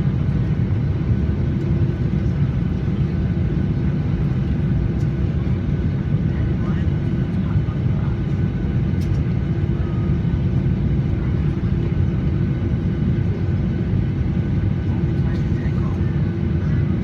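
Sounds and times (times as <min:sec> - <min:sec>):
airliner cabin rumble: 0:00.0 - 0:17.0
constant hum: 0:00.0 - 0:17.0.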